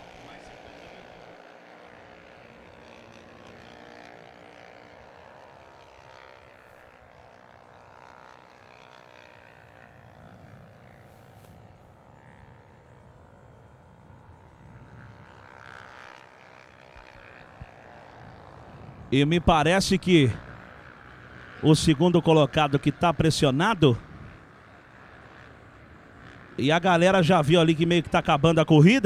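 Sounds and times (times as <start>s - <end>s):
faint racing motorcycle engines: 0.0s - 29.0s.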